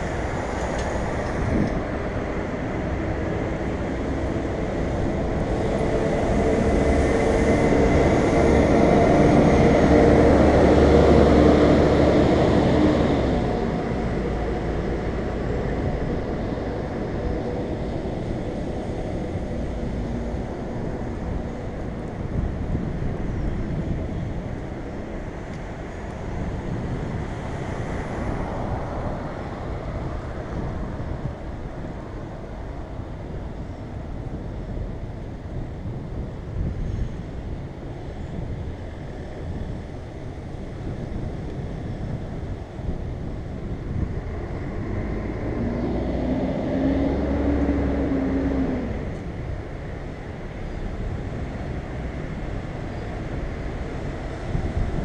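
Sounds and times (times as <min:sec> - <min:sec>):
city traffic: 0:00.0 - 0:55.0
vehicle engine hum: 0:00.0 - 0:55.0
wind: 0:00.0 - 0:55.0.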